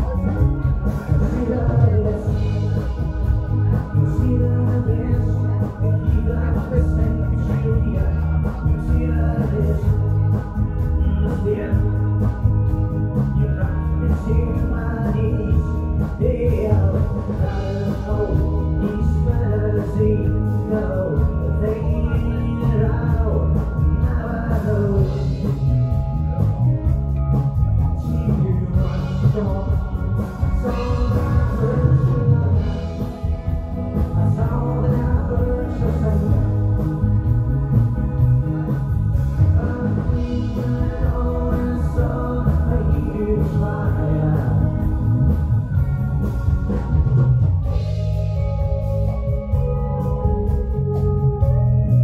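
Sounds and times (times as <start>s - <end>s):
lead singer singing: 0.0s - 26.6s, 27.6s - 47.0s
live band playing: 0.0s - 52.0s.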